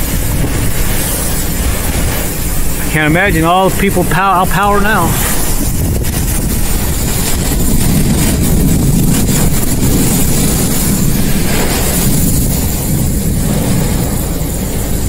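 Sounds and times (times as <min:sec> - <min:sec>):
rain hissing on car: 0:00.0 - 0:15.0
wind rumbling against car: 0:00.0 - 0:15.0.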